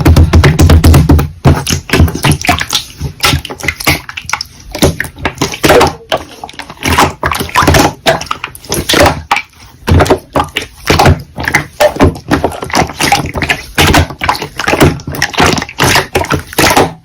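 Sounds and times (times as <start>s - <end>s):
slime squishing with crackling clicks: 1.6s - 17.0s.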